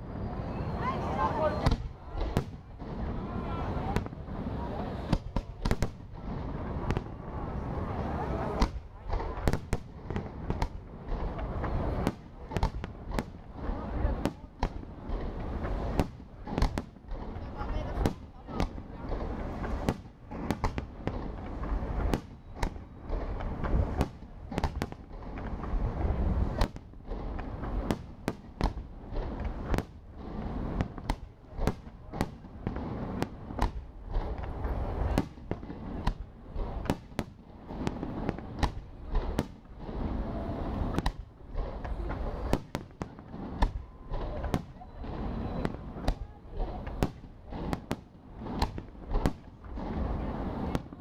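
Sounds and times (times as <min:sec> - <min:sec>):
firework bangs: 0:00.3 - 0:51.0.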